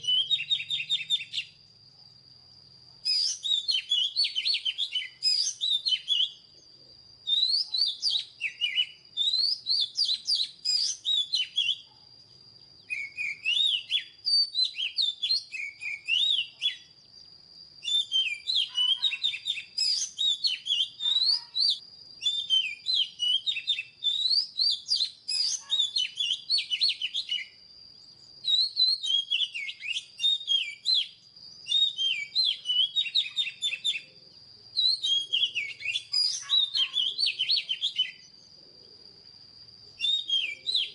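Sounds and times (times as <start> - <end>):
bird singing whistled phrases: 0.0 - 1.6, 3.0 - 6.5, 7.2 - 12.0, 12.8 - 17.2, 17.8 - 27.6, 28.4 - 38.4, 39.9 - 40.9.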